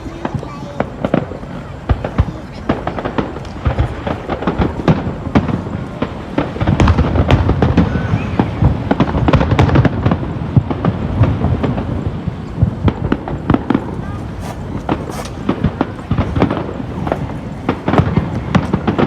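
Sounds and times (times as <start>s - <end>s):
fireworks booms: 0.0s - 19.0s
fireworks crackling and popping: 0.0s - 19.0s.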